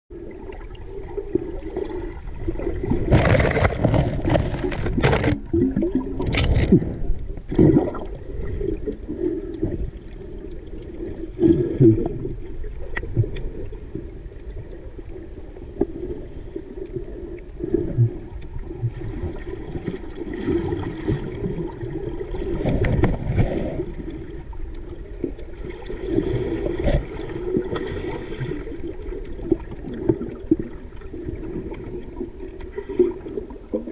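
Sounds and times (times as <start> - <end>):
rushes of bubbles: 0.1 - 33.9
underwater churning water: 0.1 - 33.9.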